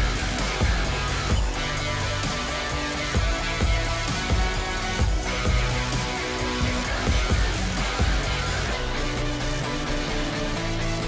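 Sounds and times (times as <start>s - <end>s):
guitar music over a beat: 0.0s - 11.0s.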